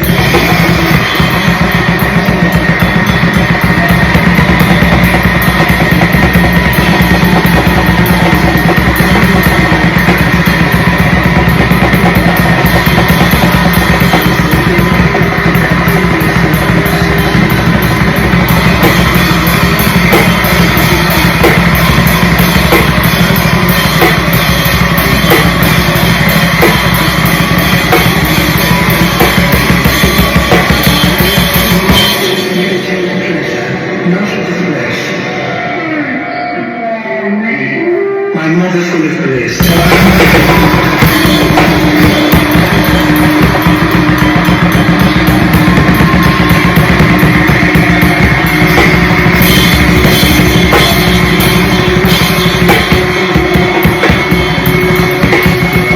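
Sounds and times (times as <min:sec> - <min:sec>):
drum kit blast beats: 0:00.0 - 0:35.4, 0:39.5 - 0:55.9
harsh distorted noise: 0:00.0 - 0:55.9.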